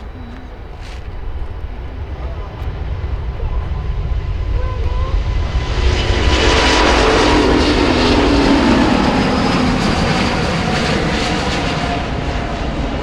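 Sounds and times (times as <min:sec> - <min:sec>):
airliner engines passing: 0:00.0 - 0:13.0.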